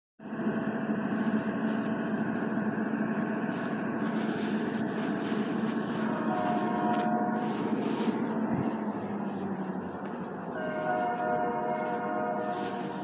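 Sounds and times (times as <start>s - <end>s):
steady mechanical drone: 0.2s - 13.0s.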